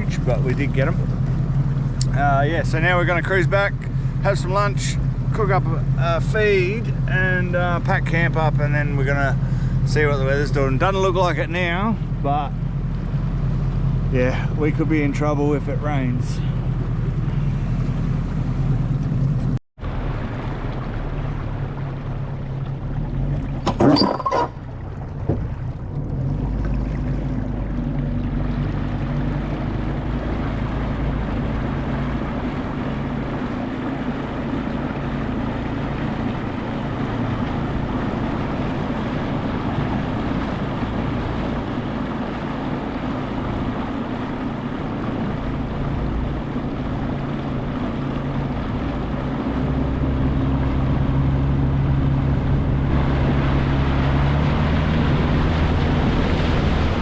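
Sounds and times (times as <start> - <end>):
boat motor running: 0.0 - 57.0
water rushing: 0.0 - 57.0
wind: 0.0 - 57.0.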